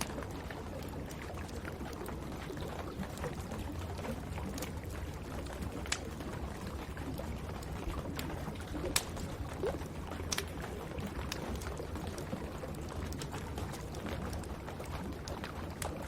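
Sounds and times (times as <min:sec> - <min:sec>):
fire popping: 0:00.0 - 0:16.0
rain: 0:00.0 - 0:16.0
wood fire crackling: 0:00.0 - 0:16.0.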